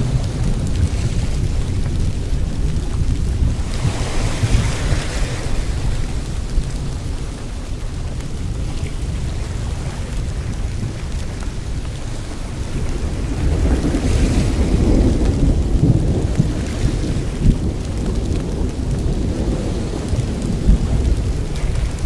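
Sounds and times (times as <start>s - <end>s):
rain hiss: 0.0s - 22.0s
thunder rumble: 0.0s - 22.0s.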